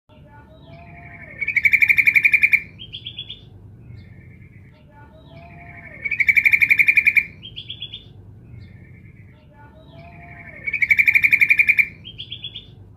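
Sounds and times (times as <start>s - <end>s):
bird bubbling chatter: 0.8s - 4.7s, 5.4s - 9.3s, 10.0s - 12.8s.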